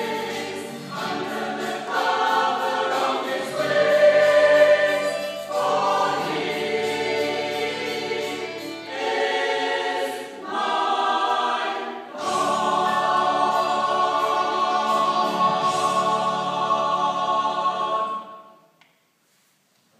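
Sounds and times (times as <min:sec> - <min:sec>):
mixed choir singing sacred piece: 0:00.0 - 0:18.7.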